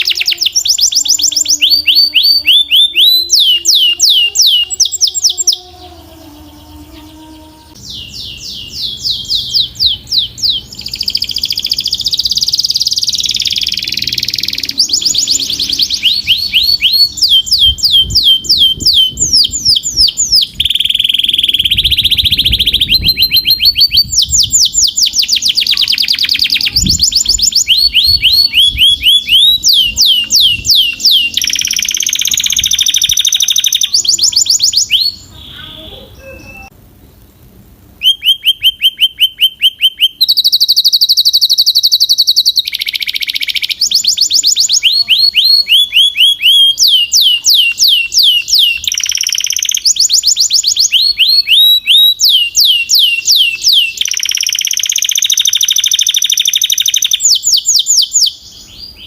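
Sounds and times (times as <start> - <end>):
canary singing trills: 0.0 - 36.8, 38.0 - 59.0.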